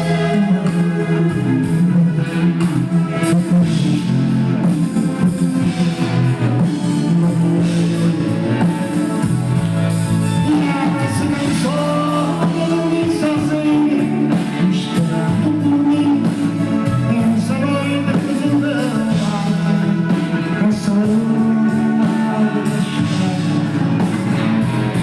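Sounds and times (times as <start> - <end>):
live band with singing: 0.0 - 25.0.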